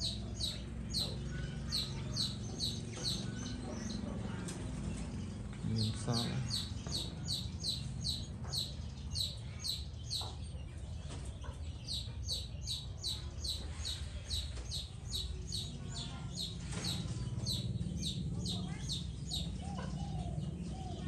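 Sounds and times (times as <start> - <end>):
bird chirping: 0.0 - 21.0
steady low hum: 0.0 - 21.0.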